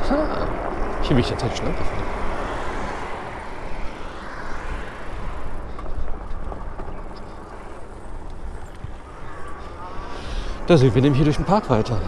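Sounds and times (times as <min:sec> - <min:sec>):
fat bike tyres rolling: 0:00.0 - 0:12.0
wind rushing over microphone: 0:00.0 - 0:12.0.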